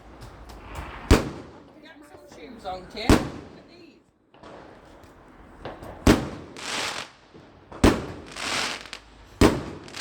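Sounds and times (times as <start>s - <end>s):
hissing crackle of fireworks: 0.0s - 3.8s, 4.4s - 10.0s
fireworks bangs: 0.0s - 10.0s.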